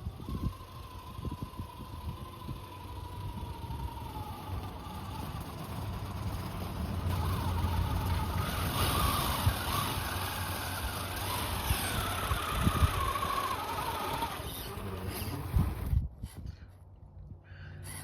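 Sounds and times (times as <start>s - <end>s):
toy car motor whining: 0.0s - 16.7s, 17.8s - 18.0s.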